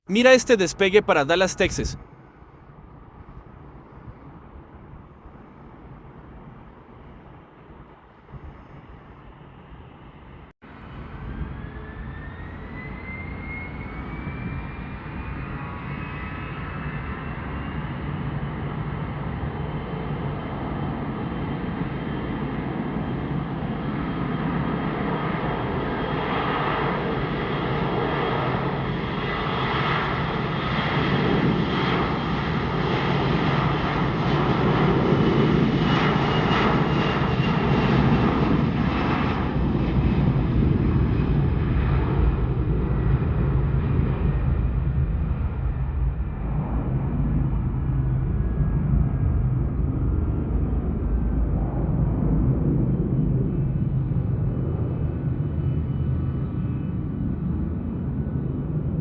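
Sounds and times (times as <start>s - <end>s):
jet engines roaring at takeoff: 0.1s - 59.0s.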